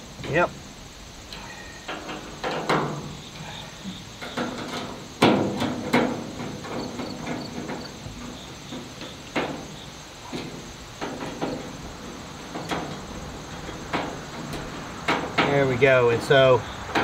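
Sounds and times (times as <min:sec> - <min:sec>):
metallic clanks on sheet metal: 0:01.3 - 0:17.0.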